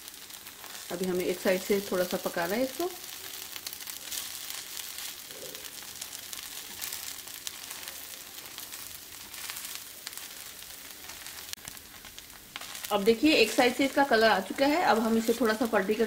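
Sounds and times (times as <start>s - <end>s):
dosa sizzling in oil: 0.0s - 16.0s.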